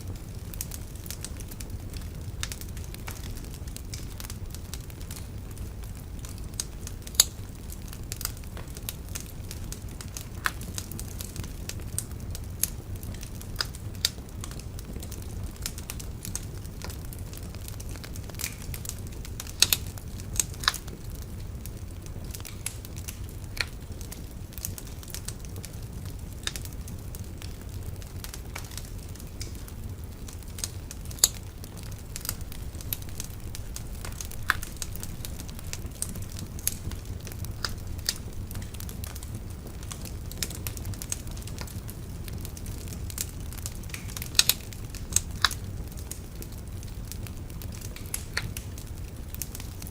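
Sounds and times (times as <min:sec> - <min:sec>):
bonfire crackling and popping: 0:00.0 - 0:49.9.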